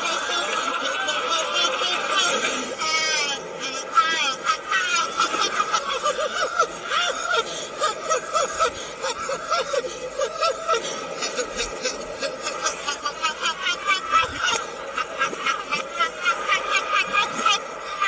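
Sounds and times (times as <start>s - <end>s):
man laughing in reverse: 0.0s - 2.9s, 3.8s - 18.0s.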